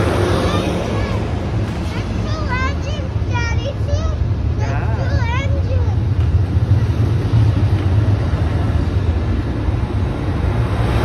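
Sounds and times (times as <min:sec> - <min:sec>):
passenger train rumbling past: 0:00.0 - 0:11.0.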